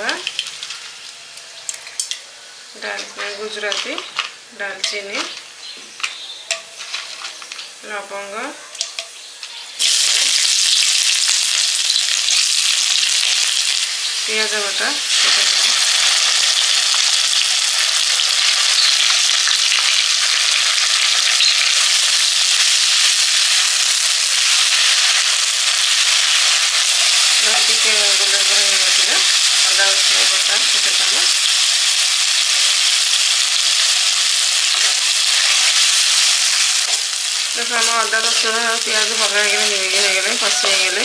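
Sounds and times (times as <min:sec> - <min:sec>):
onion paste sizzling in a wok: 0:00.0 - 0:41.0.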